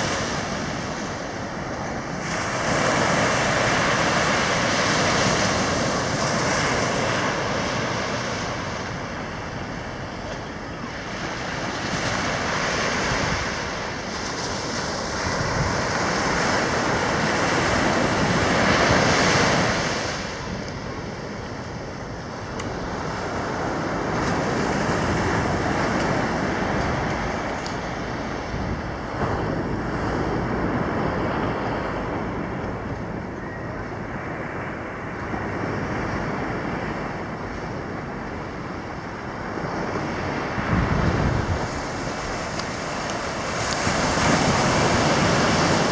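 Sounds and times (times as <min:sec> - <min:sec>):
small waves breaking on beach: 0:00.0 - 0:45.9.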